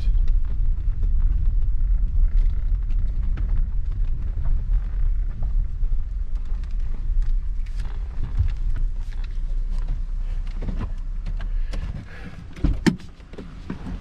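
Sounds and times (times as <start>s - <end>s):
small rattles and clicks: 0.0s - 14.0s
vehicle rumbling on the move: 0.0s - 14.0s.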